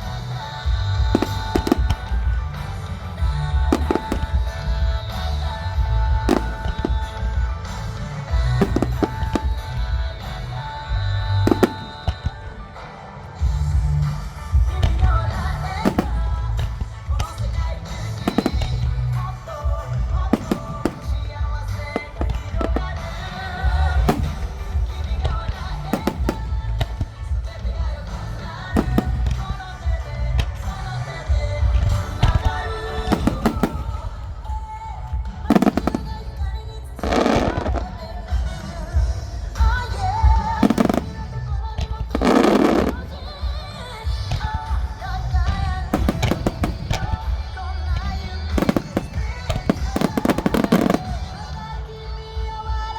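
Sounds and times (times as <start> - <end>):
fireworks bursting: 0.0 - 52.9
music with singing: 0.0 - 52.9.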